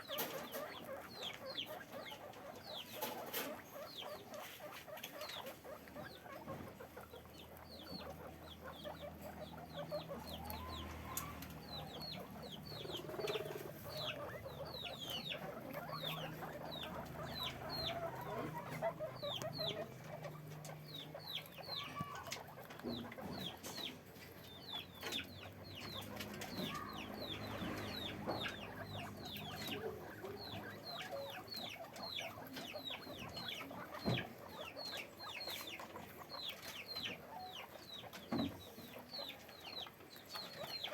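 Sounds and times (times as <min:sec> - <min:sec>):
guinea pigs squeaking: 0:00.0 - 0:40.9.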